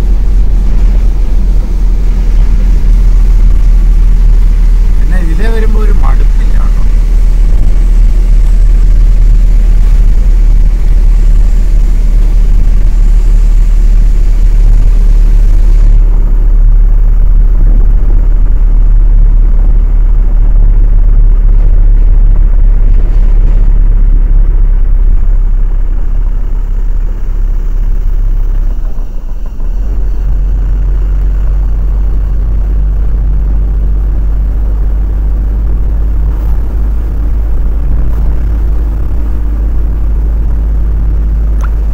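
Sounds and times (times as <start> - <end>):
diesel engine rumbling: 0.0 - 41.9.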